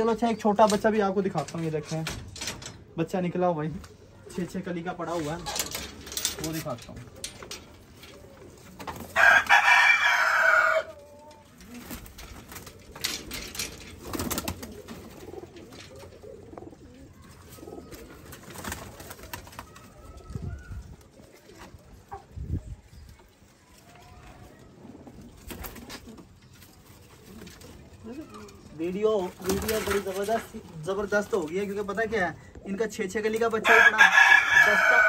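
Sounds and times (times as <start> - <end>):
pigeons cooing: 3.8 - 35.0.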